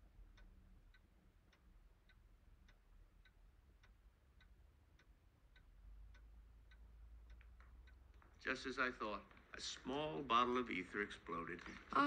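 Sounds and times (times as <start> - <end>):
clock ticking faintly: 0.0 - 12.0.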